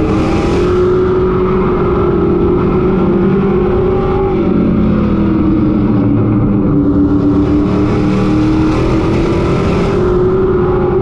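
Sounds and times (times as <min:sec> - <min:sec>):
race truck engine from inside cab: 0:00.0 - 0:11.0.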